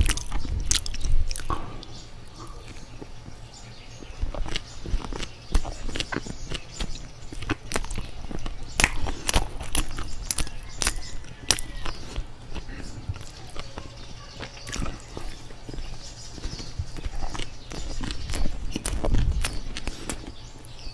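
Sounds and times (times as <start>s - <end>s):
chewing with wet mouth clicks: 0.0s - 20.9s.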